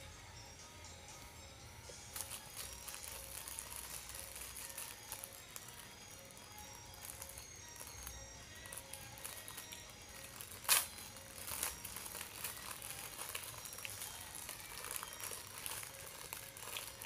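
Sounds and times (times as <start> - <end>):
faint background music: 0.0 - 17.0
food wrapping crinkling: 2.0 - 17.0.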